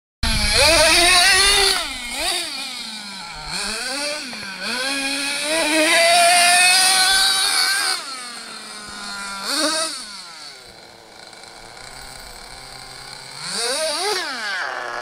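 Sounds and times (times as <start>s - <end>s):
rc truck engines revving: 0.2s - 15.0s.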